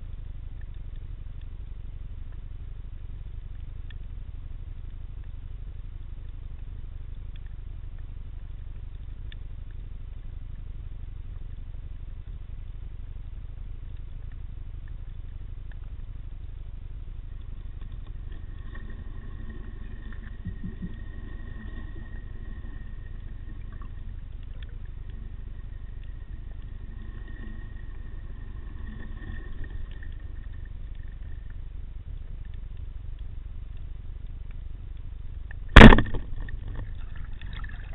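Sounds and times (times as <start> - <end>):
faint clicks: 0.0 - 37.6
multi-pitched hum: 0.0 - 37.9
underwater low rumble: 0.0 - 37.9.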